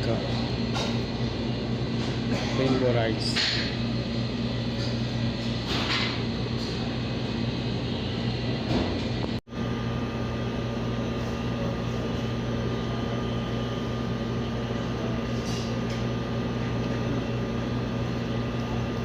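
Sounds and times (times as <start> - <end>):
ventilation machinery humming: 0.0 - 19.0.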